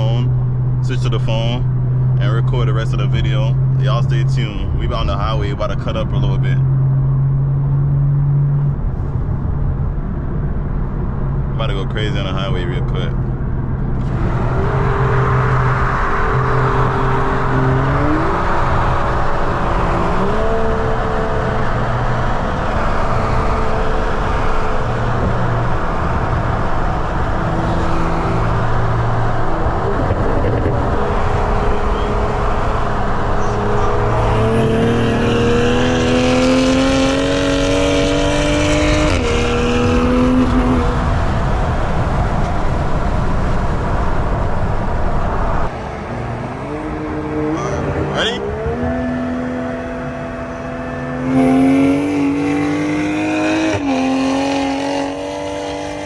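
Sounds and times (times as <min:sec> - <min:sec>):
sports car engine accelerating: 0:00.0 - 0:56.0.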